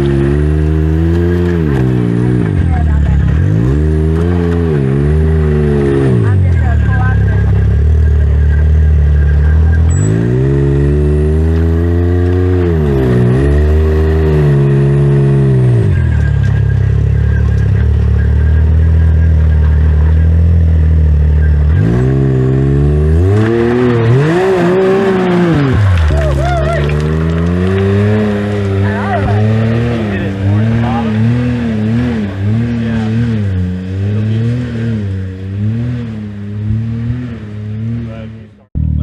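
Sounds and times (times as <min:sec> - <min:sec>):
engine idling and revving: 0:00.0 - 0:39.0.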